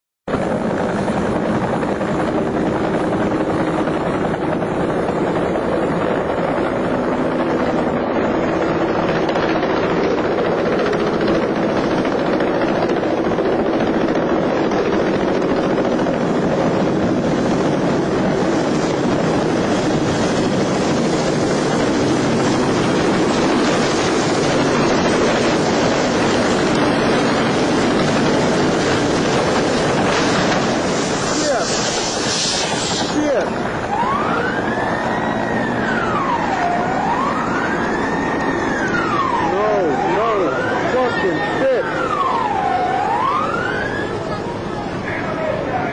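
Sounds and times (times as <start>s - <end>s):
helicopter rotor and engine noise: 0.3s - 45.9s.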